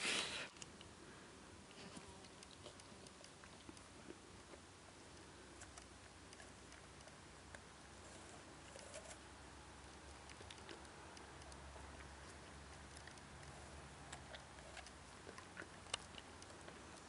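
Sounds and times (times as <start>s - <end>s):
dog crunching an apple: 1.7s - 17.0s.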